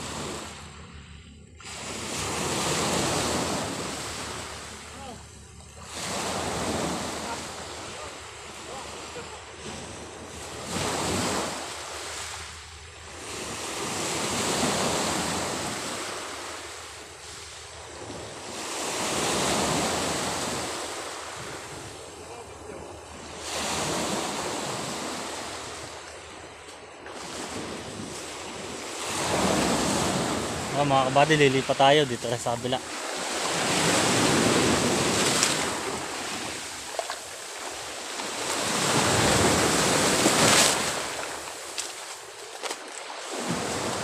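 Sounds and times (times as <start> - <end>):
sea waves breaking on beach: 0.0 - 0.9, 1.6 - 44.0.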